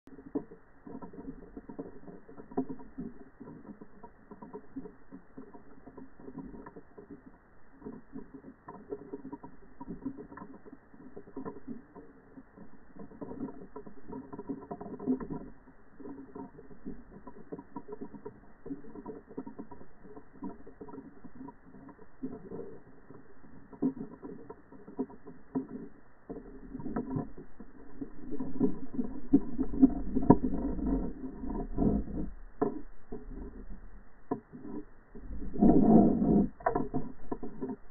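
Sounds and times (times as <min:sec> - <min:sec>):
low steady underwater hum: 0:00.1 - 0:37.9.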